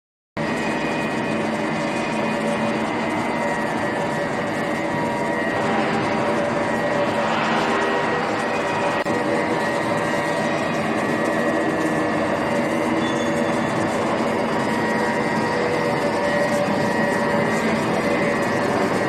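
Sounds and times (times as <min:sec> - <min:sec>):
lathe mechanical hum: 0:00.4 - 0:19.0
lathe whining tones: 0:00.4 - 0:19.0.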